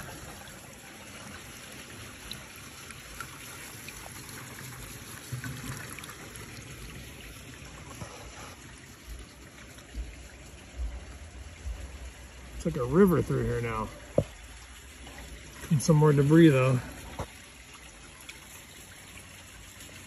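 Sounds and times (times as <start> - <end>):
water trickling in a rain gutter: 0.0 - 20.0.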